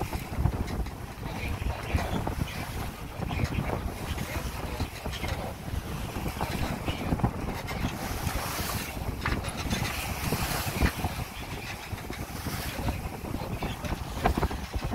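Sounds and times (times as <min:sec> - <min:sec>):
water splashing along hull: 0:00.0 - 0:14.9
wind buffeting microphone: 0:00.0 - 0:14.9.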